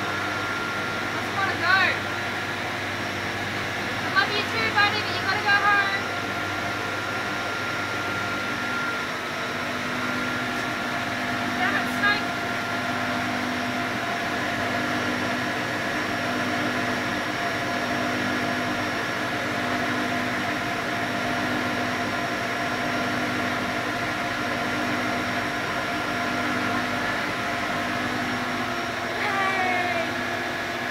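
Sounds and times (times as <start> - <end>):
mechanical hum: 0.0 - 30.9.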